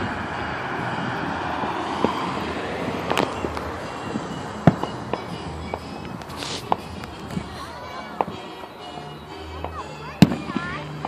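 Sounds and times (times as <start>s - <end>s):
distant firework bangs: 0.0s - 11.0s
road traffic hum: 0.0s - 11.0s.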